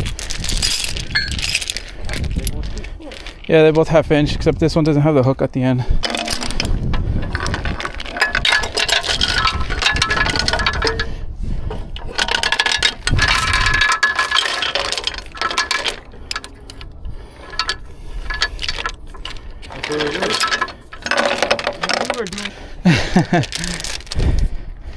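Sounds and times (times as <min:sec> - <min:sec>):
steel chain rattling and clinking: 0:00.0 - 0:04.0, 0:06.0 - 0:11.2, 0:11.9 - 0:24.8.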